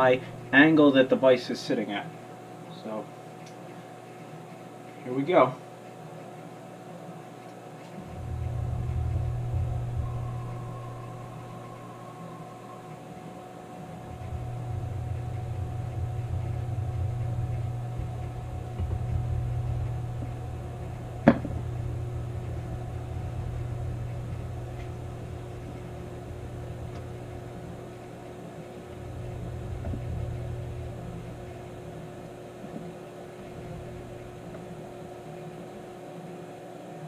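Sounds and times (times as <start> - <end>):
milling machine motors humming: 0.0 - 37.0.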